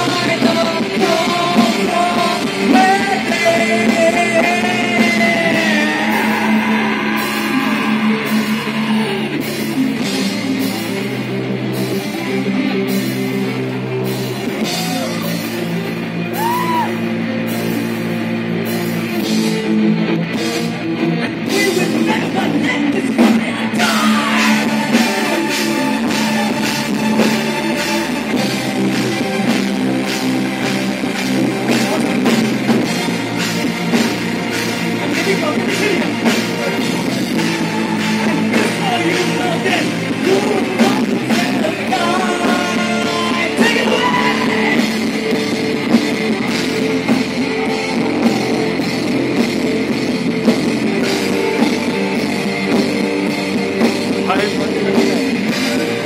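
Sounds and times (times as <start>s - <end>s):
distorted electric guitars: 0.0s - 56.0s
drum kit beat: 0.0s - 56.0s.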